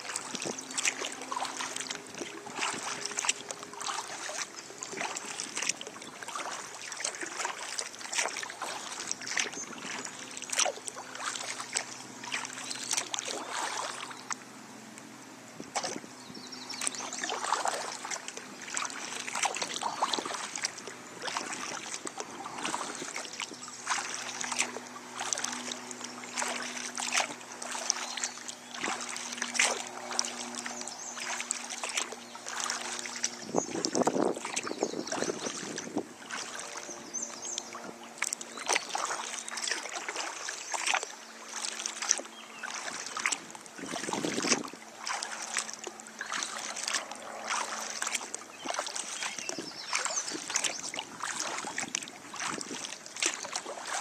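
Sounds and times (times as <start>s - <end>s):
water dripping off paddle: 0.0s - 14.4s, 15.7s - 16.0s, 16.7s - 36.7s, 37.4s - 54.0s
paddle strokes splashing water: 0.0s - 54.0s.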